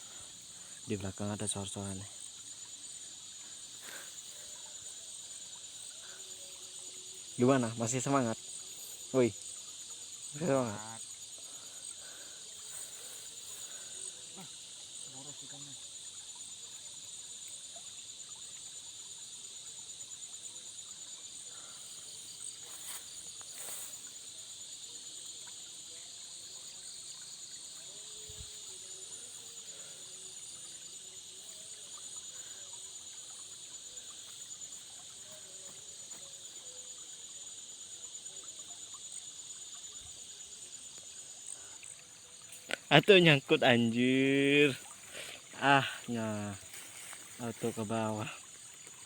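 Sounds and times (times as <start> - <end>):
night insects trilling: 0.0 - 49.0.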